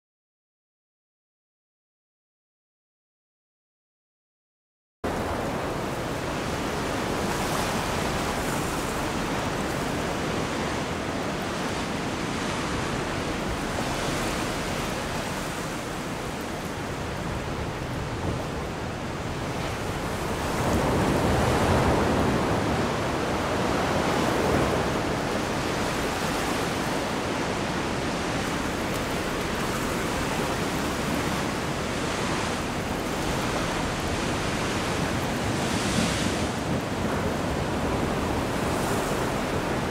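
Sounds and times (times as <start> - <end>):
wind: 5.0 - 39.9
sea waves washing: 5.1 - 39.9.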